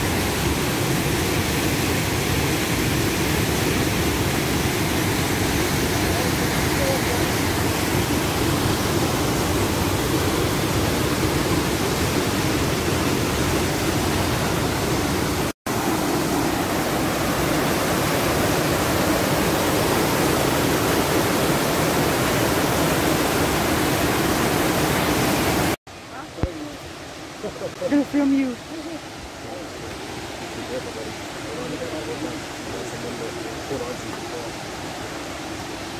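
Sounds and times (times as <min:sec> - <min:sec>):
waterfall rushing over rock: 0:00.0 - 0:35.9.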